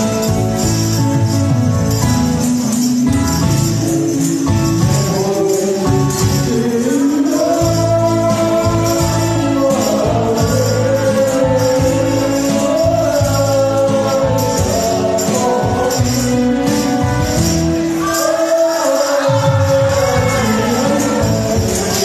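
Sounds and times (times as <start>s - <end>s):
rattling hand percussion: 0.0s - 22.0s
recorded music backing track: 0.0s - 22.0s
man singing into a microphone: 2.4s - 22.0s.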